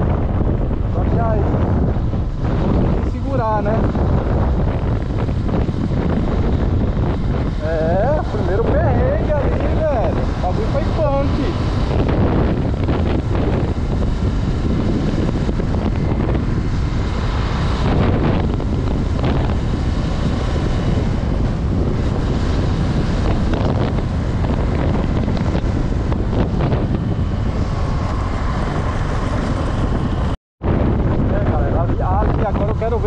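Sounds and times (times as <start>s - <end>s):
motorcycle engine running: 0.0s - 30.3s
wind rushing over microphone: 0.0s - 33.0s.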